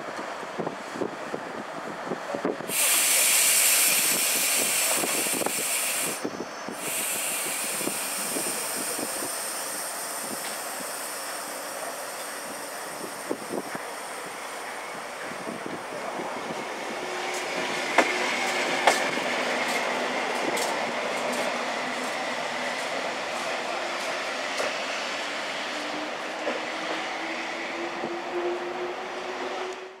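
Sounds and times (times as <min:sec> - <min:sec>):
train rolling rumble: 0:00.0 - 0:30.0.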